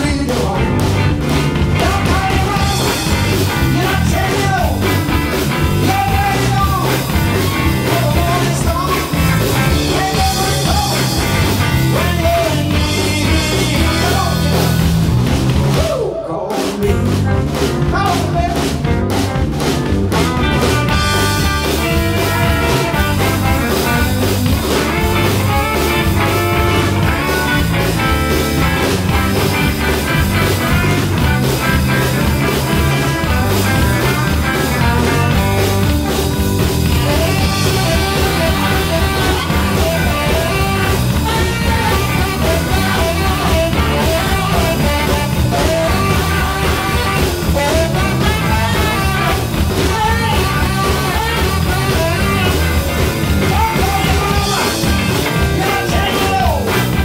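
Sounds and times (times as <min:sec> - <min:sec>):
rock band playing: 0:00.0 - 0:57.0
saxophone lead melody: 0:00.5 - 0:15.6, 0:16.9 - 0:57.0.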